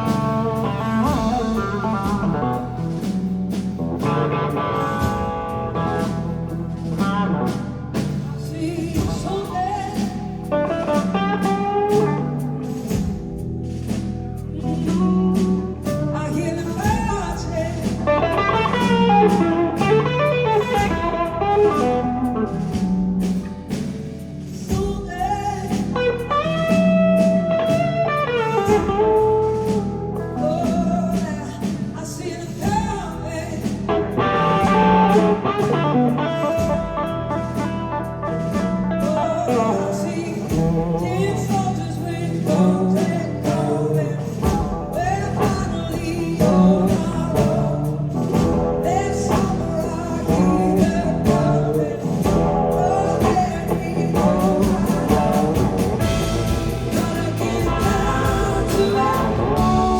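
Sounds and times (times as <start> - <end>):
electric guitar: 0.0 - 59.9
live blues-rock band playing: 0.0 - 59.9.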